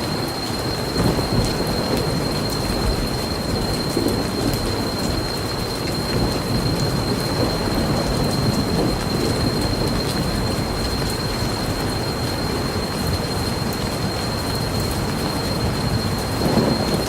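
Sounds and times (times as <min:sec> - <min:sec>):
deep continuous rumble: 0:00.0 - 0:17.0
steady rain: 0:00.0 - 0:17.0.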